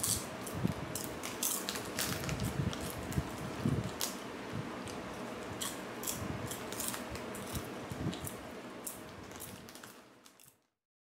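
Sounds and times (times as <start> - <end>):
plastic snack bag crinkling: 0.0 - 4.2, 4.8 - 10.7
popcorn crunching: 0.0 - 4.2, 4.8 - 10.7.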